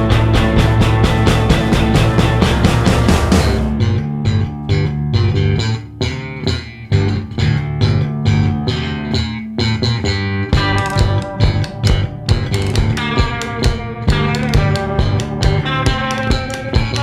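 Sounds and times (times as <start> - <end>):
bass guitar: 0.0 - 17.0
drums: 0.0 - 17.0
picked guitar riff: 0.0 - 17.0
rock band playing: 0.0 - 17.0.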